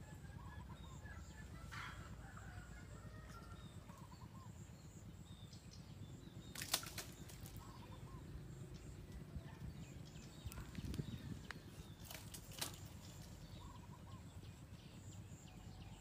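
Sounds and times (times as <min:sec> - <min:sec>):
faint bird chirps: 0:00.0 - 0:16.0
steady low rumble: 0:00.0 - 0:16.0.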